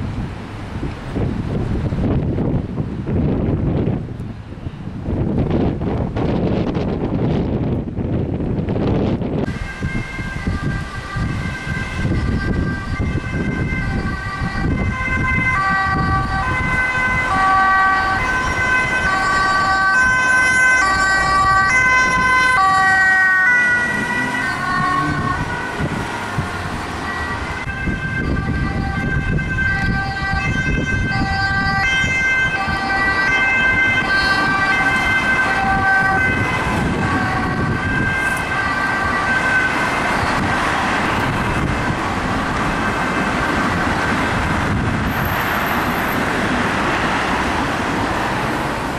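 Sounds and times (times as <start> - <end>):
road traffic rumble: 0.0 - 48.9
two-tone ambulance sirens: 0.5 - 48.9.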